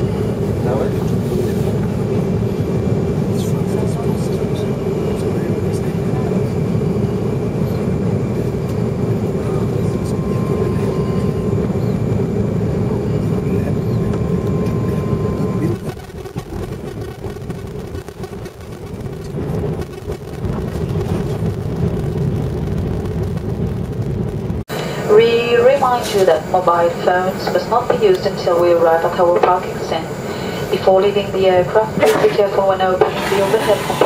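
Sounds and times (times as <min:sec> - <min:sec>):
aircraft cabin engine rumble: 0:00.0 - 0:34.0.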